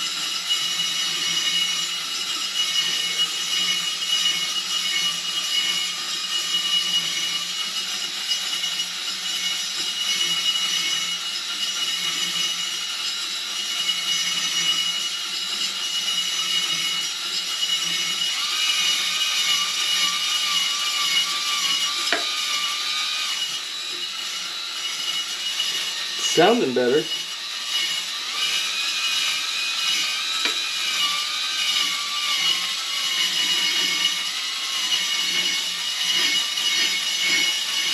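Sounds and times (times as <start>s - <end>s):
electric drill motor whir: 0.0s - 37.9s.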